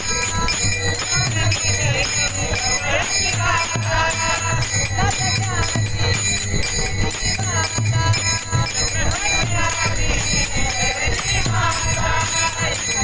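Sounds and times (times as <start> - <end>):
hand cymbals clashing: 0.0 - 13.0
held steady tones: 0.0 - 13.0
person singing devotional song: 0.0 - 13.0.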